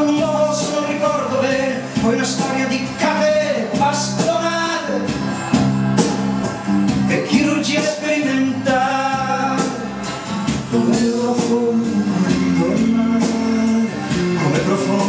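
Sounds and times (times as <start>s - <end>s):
song with band: 0.0s - 15.0s.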